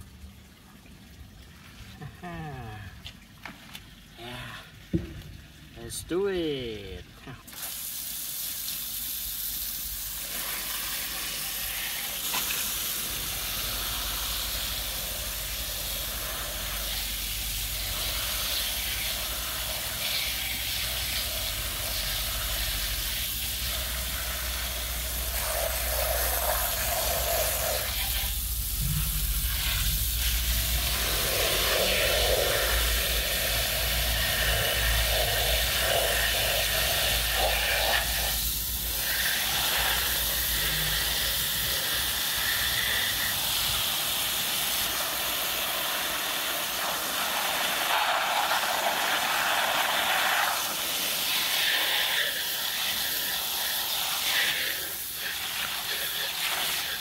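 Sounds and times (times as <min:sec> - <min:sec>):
water spraying from hose nozzle: 0:07.4 - 0:57.0.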